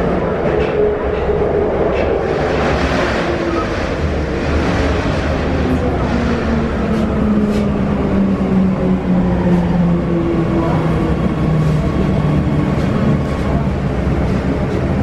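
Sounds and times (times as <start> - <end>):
metro car hum and rumble: 0.0 - 15.0.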